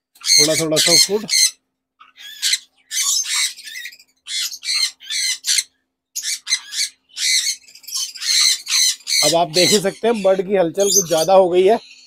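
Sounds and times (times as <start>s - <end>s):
conures screeching: 0.2s - 12.0s.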